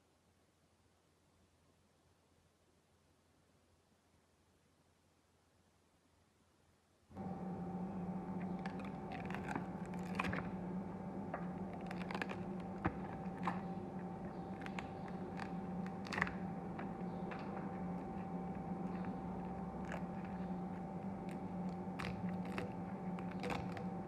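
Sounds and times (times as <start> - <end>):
steady hum with high whine: 0.0 - 24.0.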